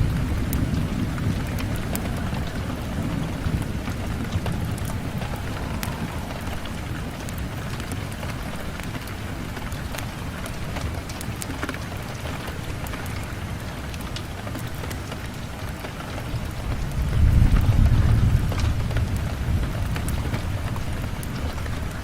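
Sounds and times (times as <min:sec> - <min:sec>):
thunder rumbling: 0:00.0 - 0:14.0, 0:15.7 - 0:22.0
rain on a window: 0:00.0 - 0:22.0
rain ticks on glass: 0:00.0 - 0:22.0.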